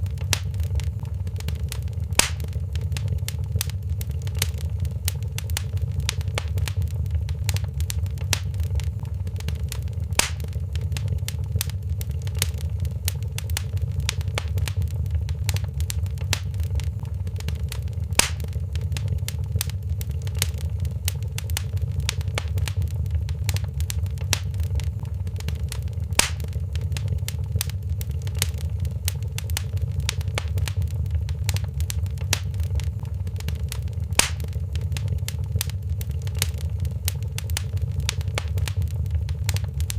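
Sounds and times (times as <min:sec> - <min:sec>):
sharp fire pops: 0:00.0 - 0:39.9
wood fire crackling: 0:00.0 - 0:39.9.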